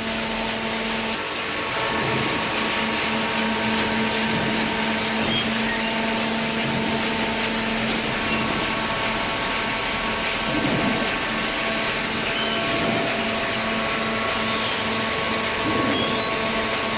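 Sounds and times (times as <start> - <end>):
machinery hum: 0.0 - 16.9.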